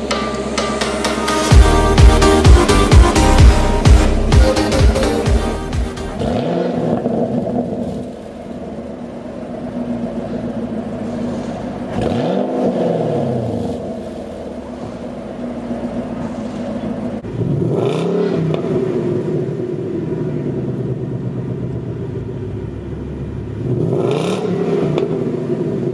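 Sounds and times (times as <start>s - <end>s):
engine revving: 0.0s - 25.9s
sports car exhaust idling: 0.0s - 25.9s.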